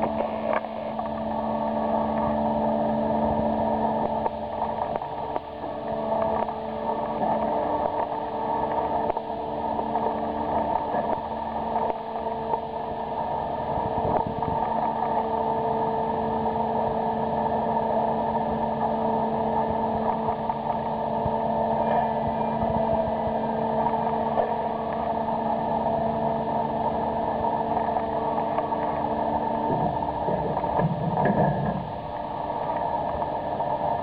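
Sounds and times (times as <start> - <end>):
crane hoist machinery drone: 0.0 - 34.0.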